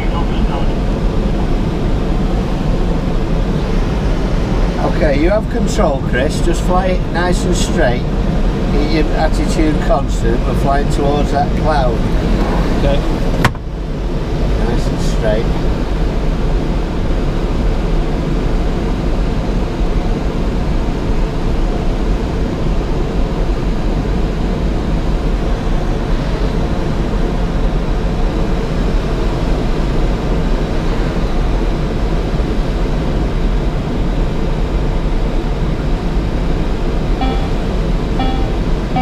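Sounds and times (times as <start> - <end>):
airflow rushing around cockpit: 0.0 - 39.0.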